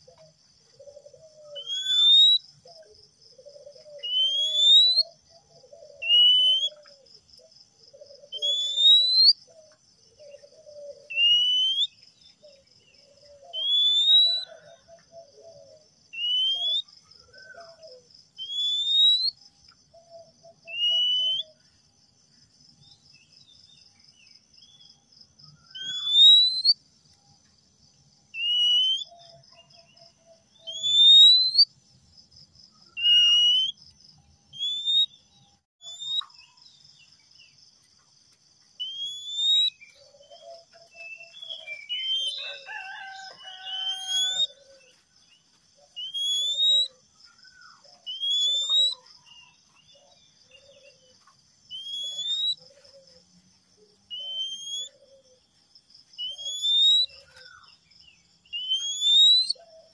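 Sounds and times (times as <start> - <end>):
bird song notes: 0.0 - 21.8, 22.8 - 27.5, 32.7 - 37.6, 38.8 - 53.1, 53.8 - 55.4, 56.2 - 59.9.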